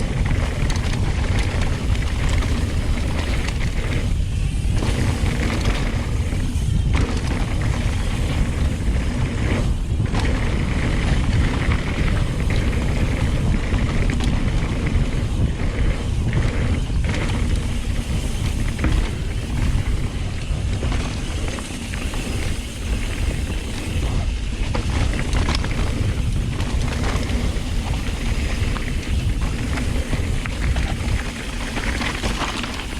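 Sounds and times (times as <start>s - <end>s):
tyres rolling over dirt: 0.0s - 32.9s
wind buffeting microphone: 0.0s - 32.9s.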